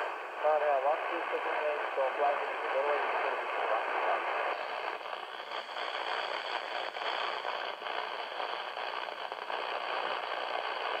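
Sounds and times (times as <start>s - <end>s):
radio static hiss and crackle: 0.0s - 11.0s.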